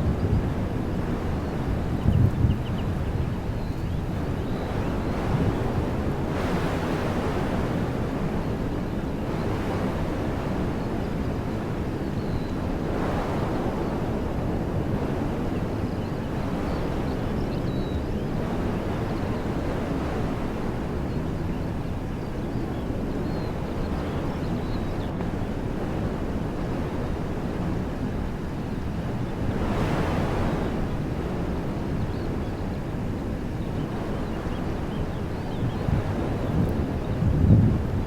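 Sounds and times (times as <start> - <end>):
wind blowing through trees: 0.0 - 38.0
wind buffeting microphone: 0.0 - 38.0.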